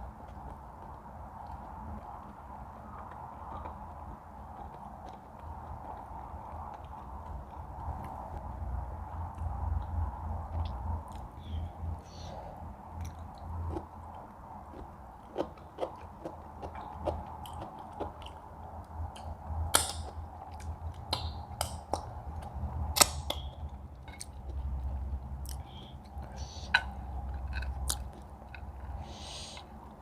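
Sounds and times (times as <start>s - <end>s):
chewing: 0.0s - 11.3s, 12.1s - 30.0s
low background hum: 0.0s - 30.0s.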